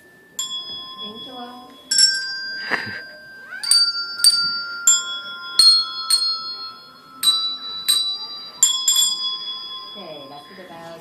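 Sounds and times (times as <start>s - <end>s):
handbells ringing: 0.0s - 11.0s.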